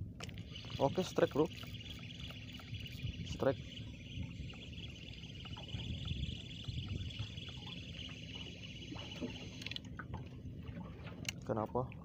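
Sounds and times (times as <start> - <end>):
wind and water rumble: 0.0 - 12.0
fishing reel whirring: 0.2 - 10.0.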